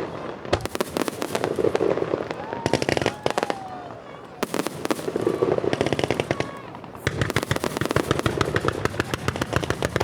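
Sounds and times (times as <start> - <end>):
fireworks crackling and bursting: 0.0 - 10.0.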